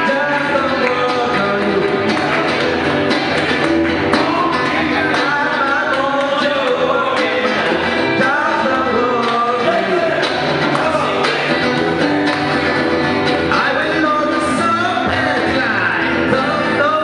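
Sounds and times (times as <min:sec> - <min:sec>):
man singing: 0:00.0 - 0:02.9, 0:04.0 - 0:11.8, 0:13.4 - 0:17.0
drums: 0:00.0 - 0:17.0
electric guitar: 0:00.0 - 0:17.0.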